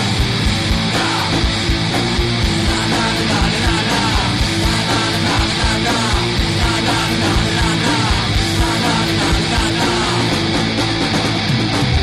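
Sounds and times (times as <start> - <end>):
bass guitar: 0.0 - 12.0
driving drum beat: 0.0 - 12.0
electric guitars: 0.0 - 12.0.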